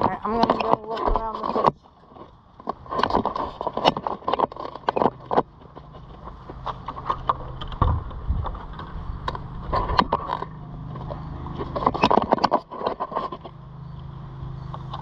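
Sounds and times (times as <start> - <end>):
footsteps outdoors: 0.0 - 15.0
steady low hum: 0.0 - 15.0.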